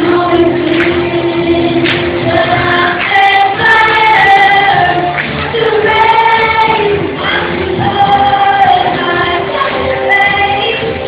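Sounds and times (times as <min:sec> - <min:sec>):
girl singing pop ballad: 0:00.0 - 0:11.0.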